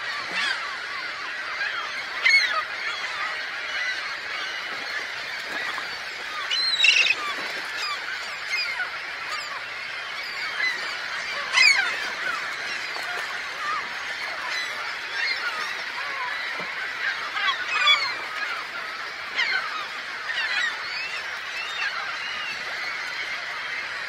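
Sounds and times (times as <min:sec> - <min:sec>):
flock of waterbirds calling: 0:00.0 - 0:24.0.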